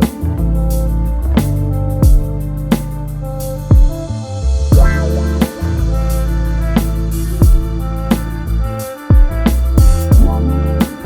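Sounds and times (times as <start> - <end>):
instrumental music with kick drum: 0.0 - 11.0.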